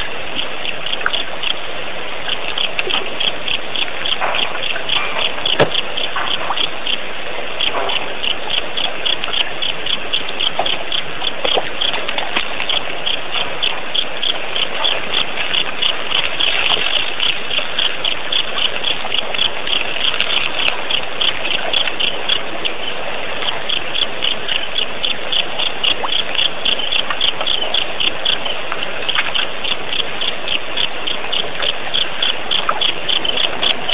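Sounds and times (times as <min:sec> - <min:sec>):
insects calling in high pulses: 0:00.0 - 0:33.9.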